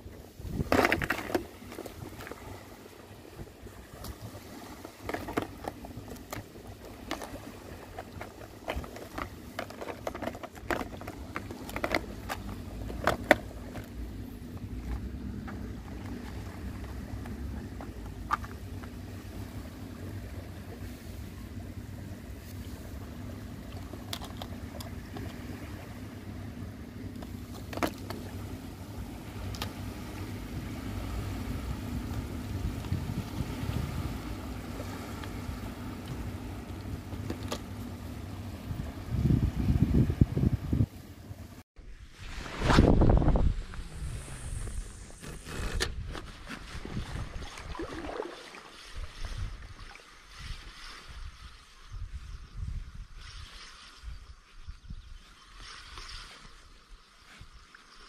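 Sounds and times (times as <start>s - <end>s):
water lapping: 0.0s - 41.6s, 42.2s - 52.0s
low wind rumble on microphone: 0.0s - 57.7s.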